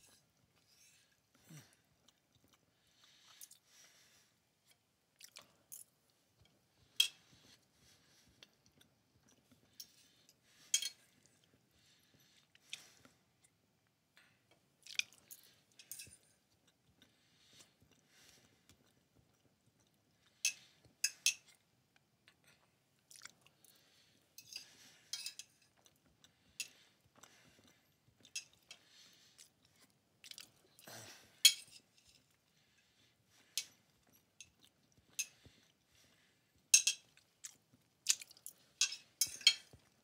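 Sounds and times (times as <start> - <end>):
person chewing food: 0.1 - 40.0.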